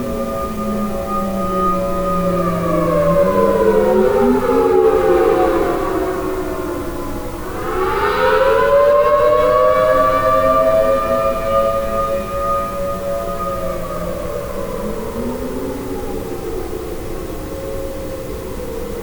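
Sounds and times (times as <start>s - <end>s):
warning sirens wailing: 0.0s - 19.0s.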